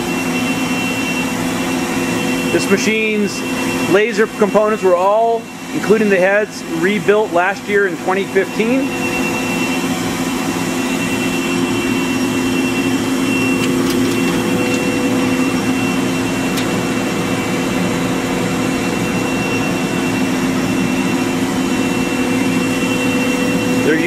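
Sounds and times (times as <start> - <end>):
machinery hum with high whine: 0.0 - 24.0.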